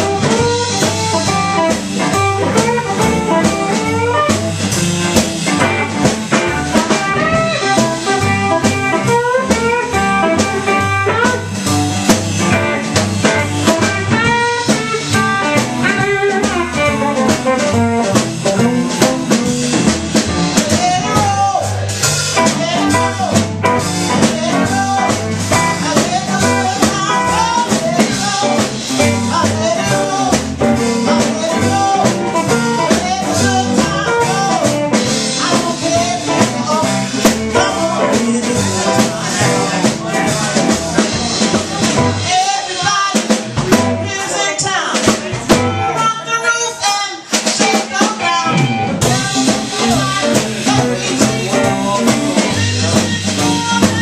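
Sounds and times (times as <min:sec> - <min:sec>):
plucked upright bass: 0:00.0 - 0:42.4, 0:43.4 - 0:44.2, 0:45.0 - 0:46.0, 0:48.2 - 0:54.0
drum kit: 0:00.0 - 0:54.0
electric guitar: 0:00.0 - 0:54.0
live blues band: 0:00.0 - 0:54.0.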